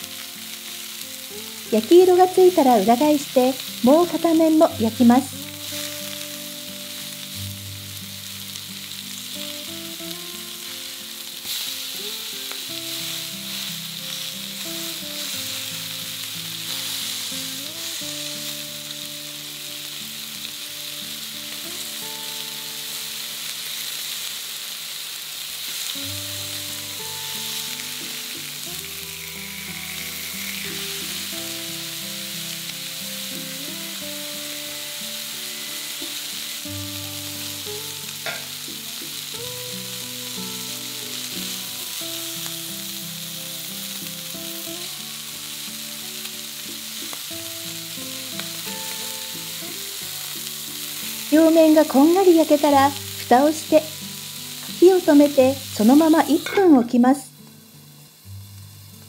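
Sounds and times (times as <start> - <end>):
soft background music: 0.0 - 24.8, 25.6 - 59.0
food sizzling in a frying pan: 0.0 - 59.0.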